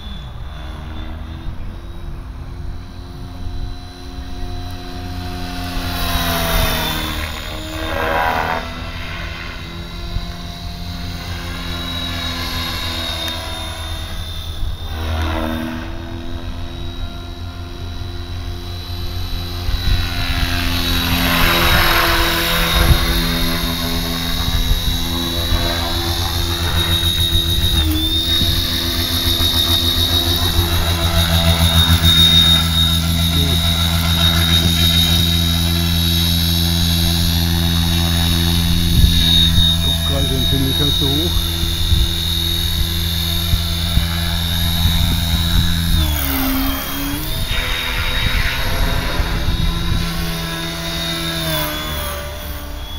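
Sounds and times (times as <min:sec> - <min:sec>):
rc helicopter motor whine: 0:00.0 - 0:52.9
rotor blades: 0:00.0 - 0:52.9.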